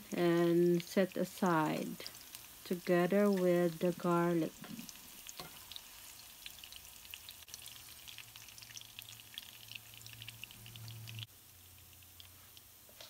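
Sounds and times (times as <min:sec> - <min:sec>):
hot oil sizzling in a pan: 0:00.0 - 0:13.0.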